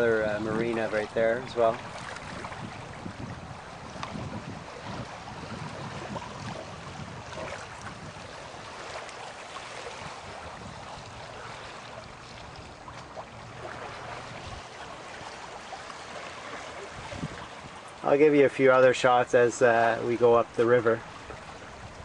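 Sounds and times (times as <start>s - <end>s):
water rushing along a hull: 0.0s - 22.0s
wind rumbling on microphone: 0.0s - 22.0s.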